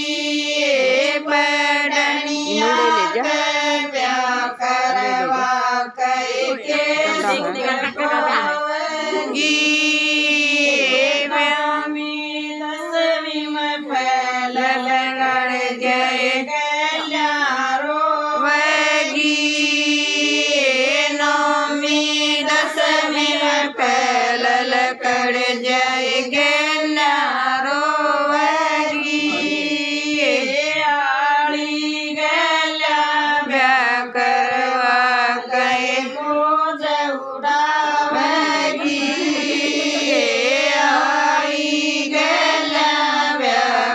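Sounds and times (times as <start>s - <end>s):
women singing folk song: 0.0s - 43.9s.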